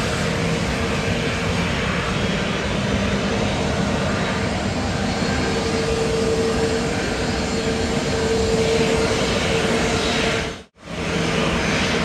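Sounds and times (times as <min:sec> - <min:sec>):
airliner engines rushing: 0:00.0 - 0:12.0.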